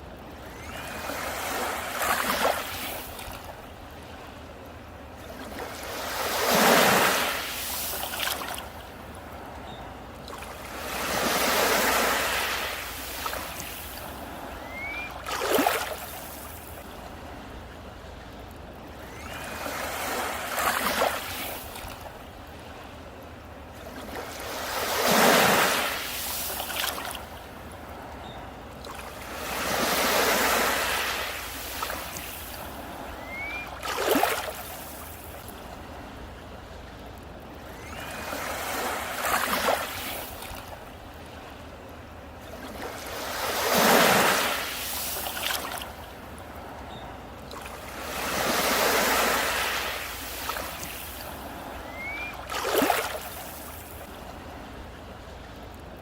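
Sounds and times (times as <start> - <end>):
sea waves crashing on beach: 0.0 - 18.0, 19.0 - 36.9, 37.6 - 55.5.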